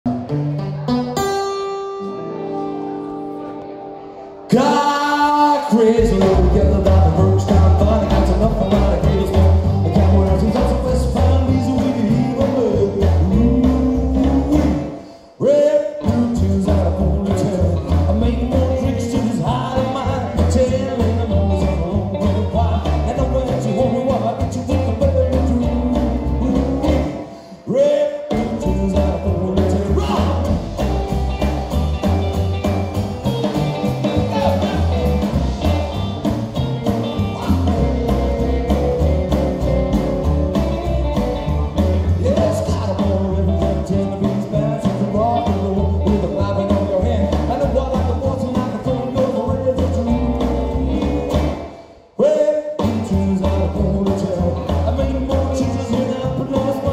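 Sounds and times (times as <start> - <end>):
rockabilly band playing live: 0.0 - 56.9
person singing: 0.6 - 56.9.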